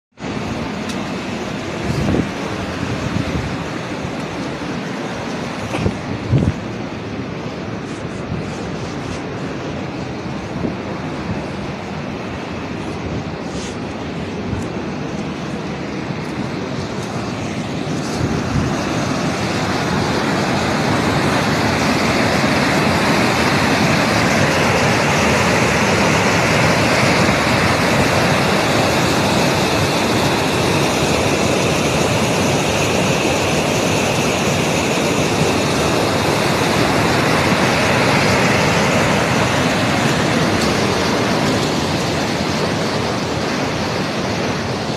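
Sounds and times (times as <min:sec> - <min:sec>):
rushing water roar: 0:00.1 - 0:44.9.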